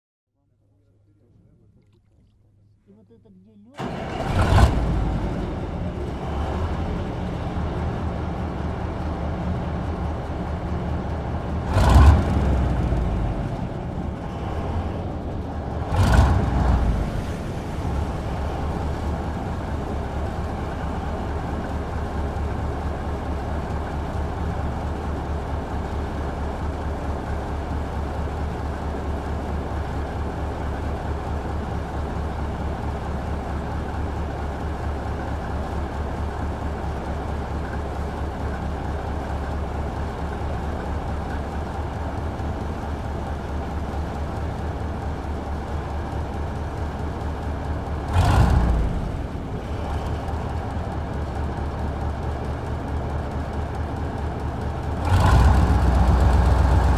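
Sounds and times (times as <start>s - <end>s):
motor boat engine droning: 3.8s - 56.9s.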